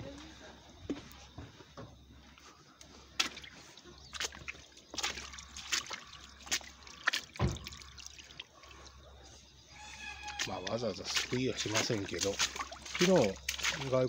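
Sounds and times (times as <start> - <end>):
faint water trickle: 2.1 - 14.0
fish splashing in shallow water: 2.4 - 14.0.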